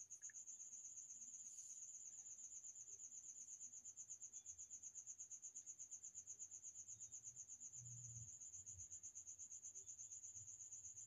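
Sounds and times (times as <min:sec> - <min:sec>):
faint high-pitched pulsing chirping: 0:00.0 - 0:11.0.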